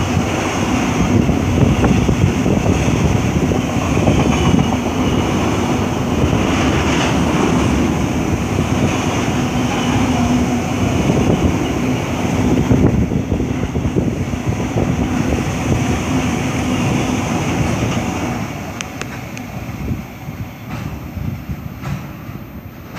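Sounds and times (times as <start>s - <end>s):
train wagons rolling on rails: 0.0s - 22.9s.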